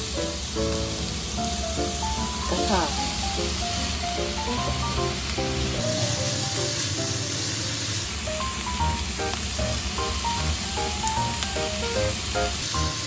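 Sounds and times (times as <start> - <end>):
melodic background music: 0.0 - 7.0, 8.3 - 13.0
food sizzling in a frying pan: 0.0 - 13.0.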